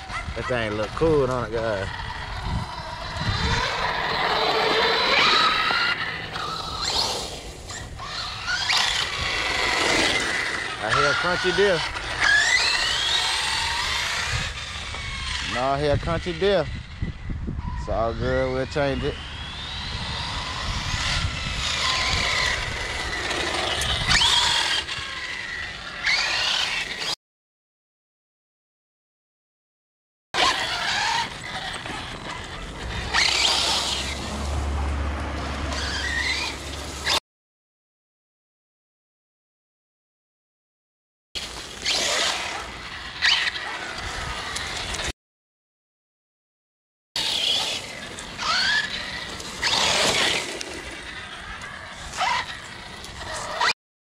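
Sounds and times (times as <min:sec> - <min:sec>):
crunchy drivetrain: 0:00.0 - 0:17.4, 0:18.1 - 0:27.2, 0:30.4 - 0:37.2, 0:41.4 - 0:45.1, 0:47.2 - 0:53.8
rc truck motor whining: 0:00.0 - 0:27.2, 0:30.4 - 0:37.2, 0:41.4 - 0:45.1, 0:47.2 - 0:53.8
rough scraping: 0:00.1 - 0:17.0, 0:17.8 - 0:27.2, 0:30.4 - 0:37.2, 0:41.4 - 0:45.1, 0:47.2 - 0:53.8.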